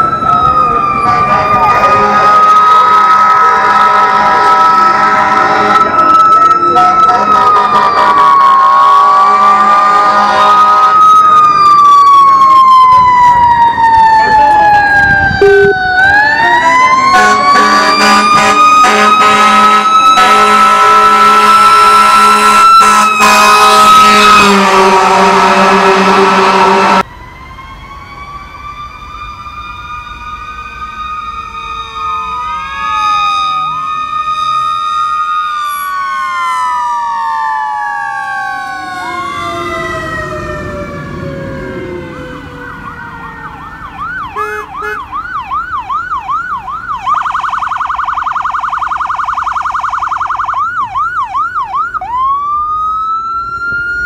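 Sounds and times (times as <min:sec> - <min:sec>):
fire engine sirens wailing: 0:00.0 - 0:54.0
siren yelping: 0:00.0 - 0:54.0.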